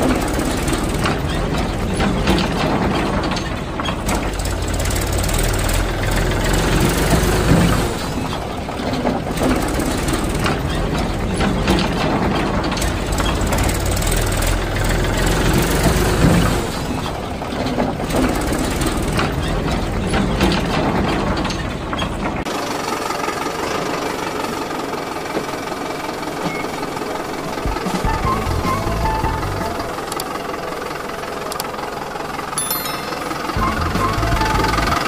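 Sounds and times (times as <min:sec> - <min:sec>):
diesel engine knocking idle: 0:00.0 - 0:20.1, 0:22.5 - 0:32.6.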